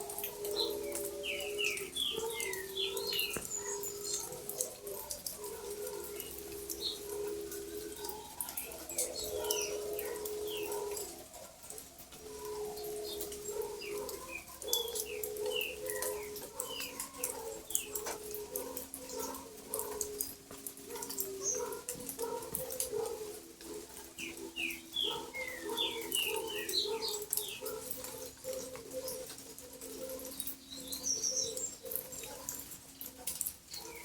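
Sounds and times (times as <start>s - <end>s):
birds calling low held notes: 0.0s - 34.0s.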